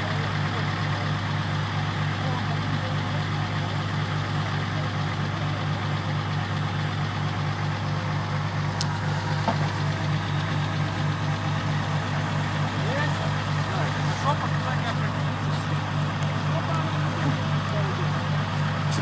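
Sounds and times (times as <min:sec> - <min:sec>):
suv engine idling: 0:00.0 - 0:19.0.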